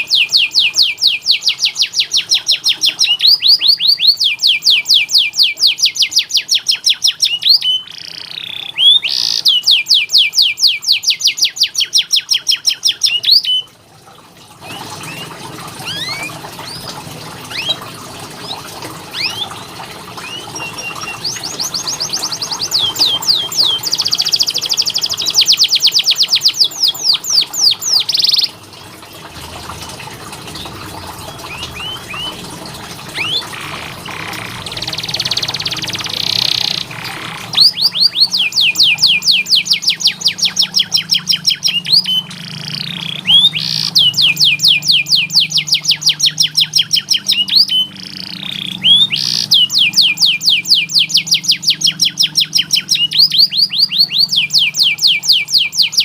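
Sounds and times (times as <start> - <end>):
canary singing trills: 0.0 - 13.7, 14.6 - 28.6, 30.5 - 32.4, 33.1 - 56.0.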